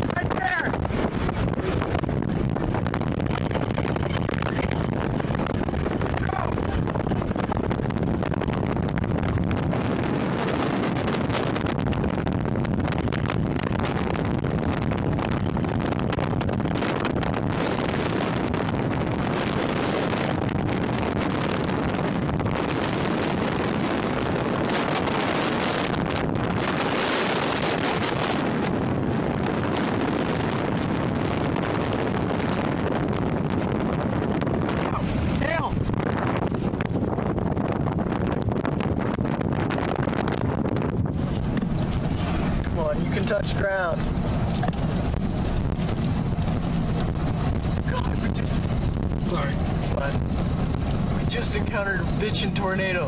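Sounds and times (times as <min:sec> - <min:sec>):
vehicle road and engine noise: 0:00.0 - 0:53.0
wind buffeting microphone: 0:00.0 - 0:53.0
wind rushing: 0:00.0 - 0:53.0.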